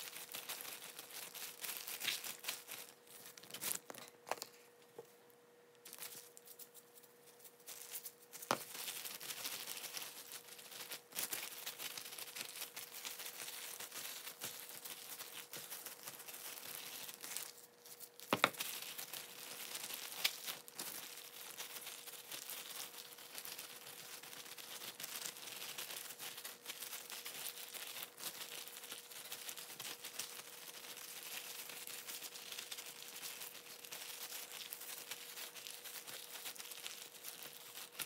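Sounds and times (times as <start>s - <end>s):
plastic glove crinkling: 0.0s - 5.2s, 5.8s - 38.0s.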